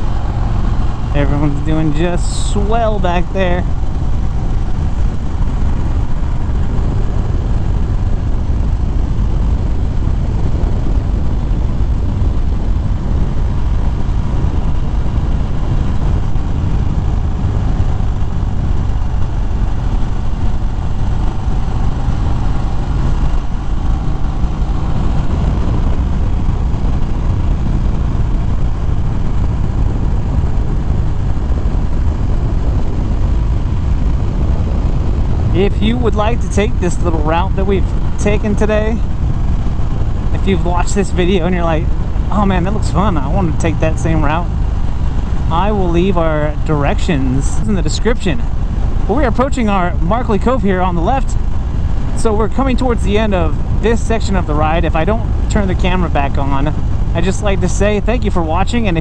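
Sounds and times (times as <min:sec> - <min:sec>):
motorcycle engine running: 0:00.0 - 0:59.0
wind rushing on microphone: 0:00.0 - 0:59.0.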